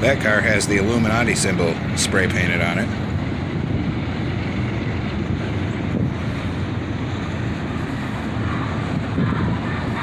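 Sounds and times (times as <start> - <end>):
freight cars rumbling on rails: 0.0 - 10.0
wind buffeting microphone: 0.0 - 10.0.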